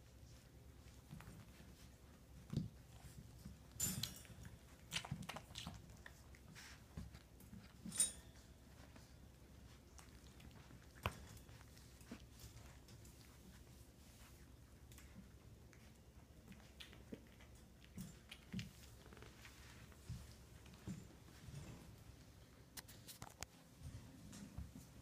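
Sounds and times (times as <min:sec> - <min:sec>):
puppies chewing and rustling: 0:00.0 - 0:25.0.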